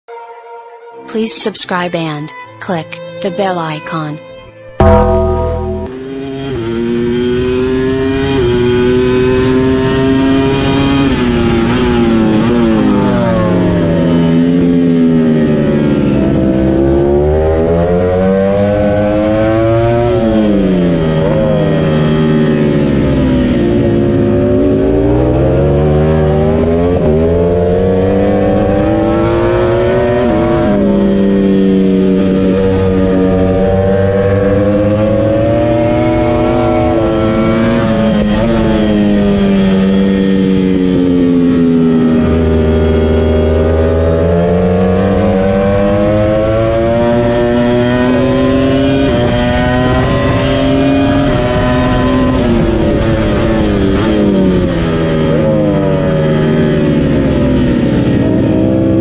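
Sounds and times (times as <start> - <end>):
motorcycle engine revving: 6.2 - 58.9.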